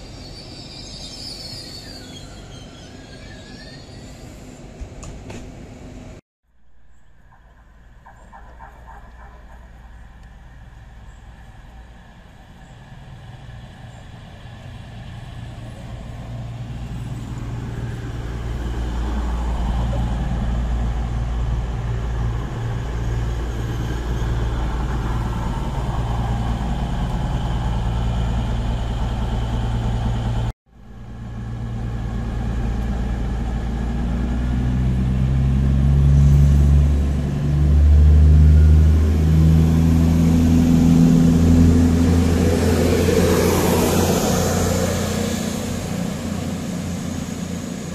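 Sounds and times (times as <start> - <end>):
train diesel engines: 0.0 - 47.9.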